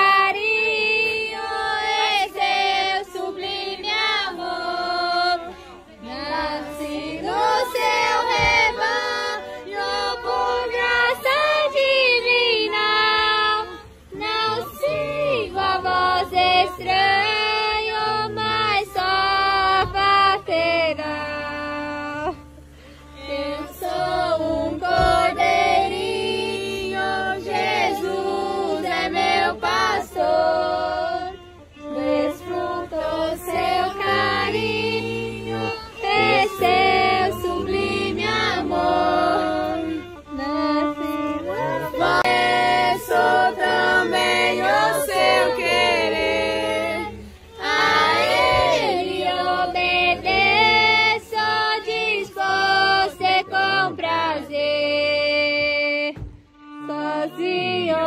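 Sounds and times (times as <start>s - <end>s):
group singing together: 0.0s - 58.0s.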